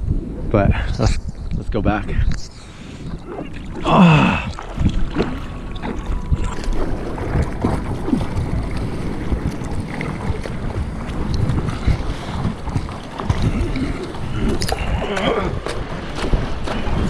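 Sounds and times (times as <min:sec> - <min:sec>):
wind rumbling on microphone: 0:00.0 - 0:17.0
water splashing against surfboard: 0:02.8 - 0:17.0.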